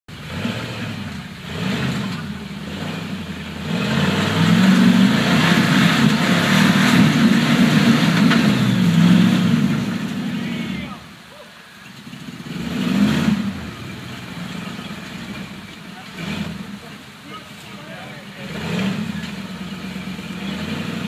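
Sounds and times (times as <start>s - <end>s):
buggy engine revving: 0.1s - 21.0s.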